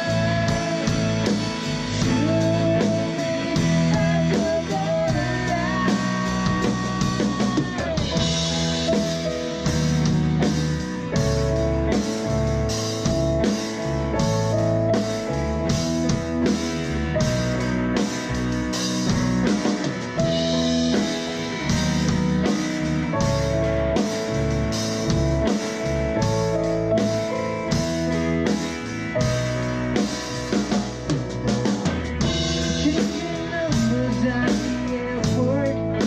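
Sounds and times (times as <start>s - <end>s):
drum kit beat: 0.0s - 36.0s
rock guitars: 0.0s - 36.0s.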